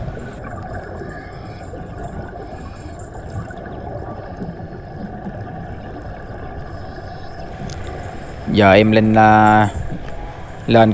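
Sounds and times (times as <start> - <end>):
underwater rumble: 0.0 - 10.9
water gurgling: 0.0 - 10.9.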